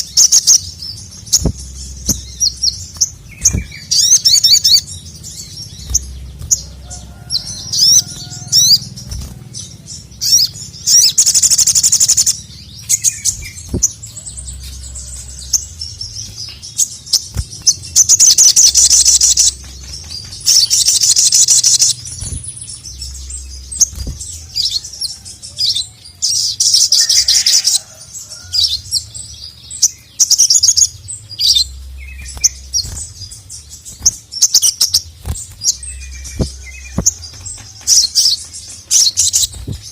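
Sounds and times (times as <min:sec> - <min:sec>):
sharp bird chirps and calls: 0:00.0 - 0:39.9.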